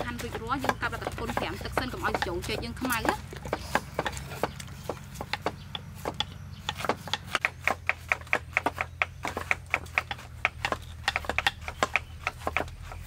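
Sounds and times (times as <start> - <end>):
knife chopping on wooden board: 0.0 - 13.0.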